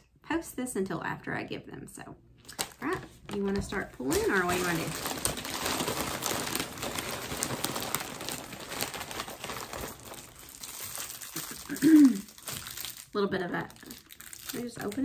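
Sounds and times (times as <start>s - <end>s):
plastic bag crinkling and tearing: 2.4s - 15.0s.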